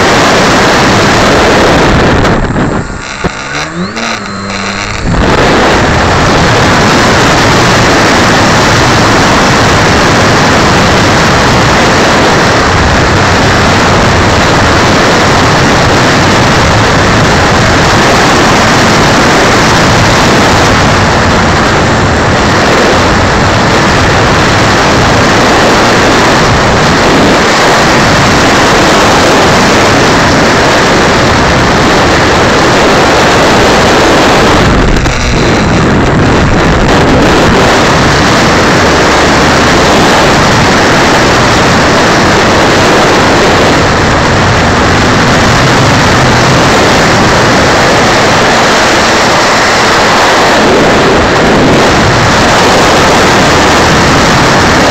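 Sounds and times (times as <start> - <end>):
propeller and wind roar: 0.0 - 54.9.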